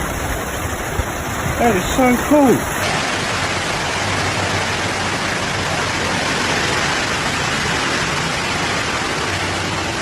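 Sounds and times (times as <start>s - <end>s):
rain: 0.0s - 10.0s.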